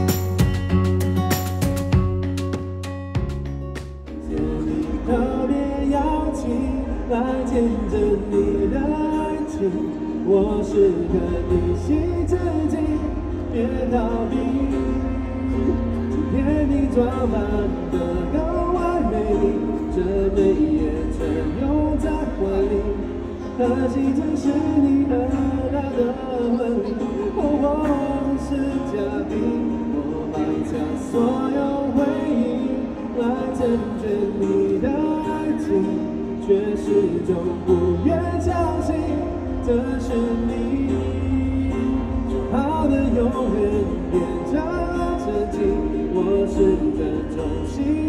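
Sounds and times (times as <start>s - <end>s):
acoustic guitar: 0.0s - 48.0s
man singing a ballad: 4.2s - 48.0s.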